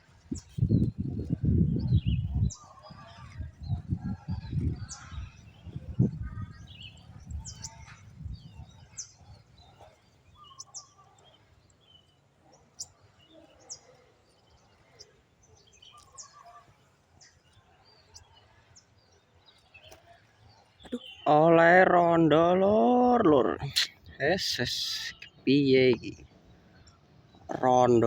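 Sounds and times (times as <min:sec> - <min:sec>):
birds chirping: 0:00.1 - 0:28.0.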